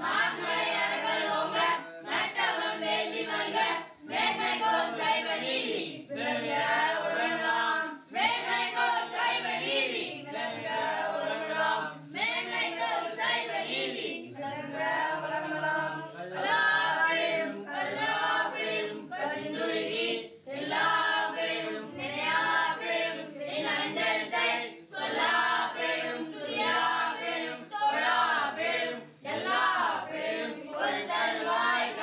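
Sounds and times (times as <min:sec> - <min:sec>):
group singing devotional song: 0:00.0 - 0:32.0.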